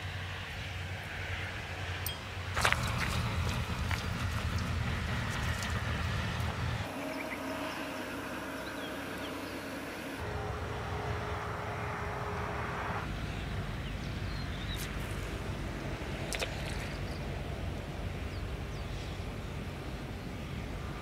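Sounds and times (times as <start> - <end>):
wind and road noise: 0.0 - 21.0
motorbike engine hum: 2.1 - 21.0.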